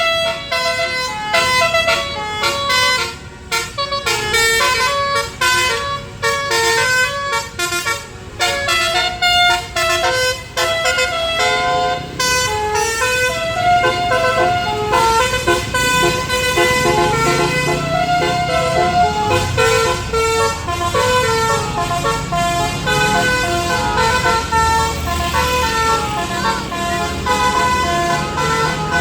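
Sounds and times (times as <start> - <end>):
bus engine running: 0.0 - 29.0
musical bus air horn melody: 0.0 - 29.0.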